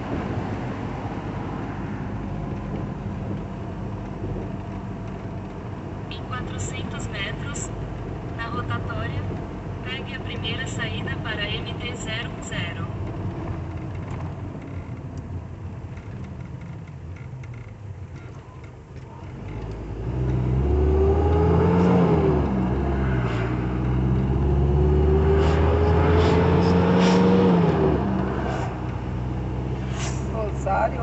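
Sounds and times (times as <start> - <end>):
diesel engine accelerating: 0.0 - 31.0
road rumble: 0.0 - 31.0.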